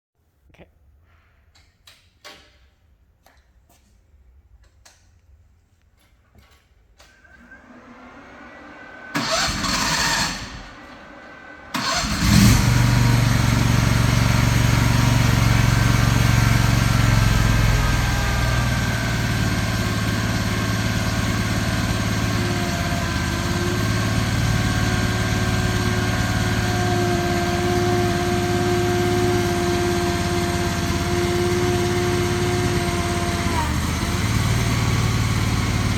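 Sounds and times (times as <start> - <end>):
engine cranking and running: 6.4 - 35.9.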